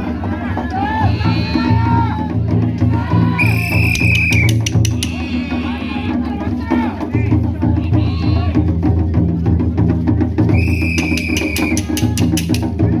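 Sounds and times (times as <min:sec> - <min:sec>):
drums beating steadily: 0:00.0 - 0:13.0.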